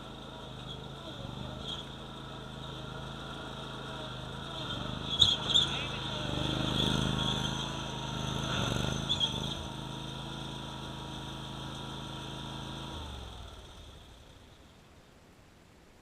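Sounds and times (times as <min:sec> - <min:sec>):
engine spinning down: 0:00.0 - 0:14.7
mower engine running: 0:00.0 - 0:14.8.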